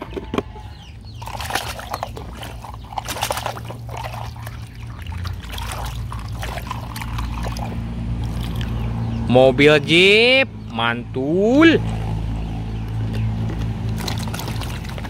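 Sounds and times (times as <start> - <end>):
muddy water splashing: 0.7 - 9.6, 11.7 - 15.0.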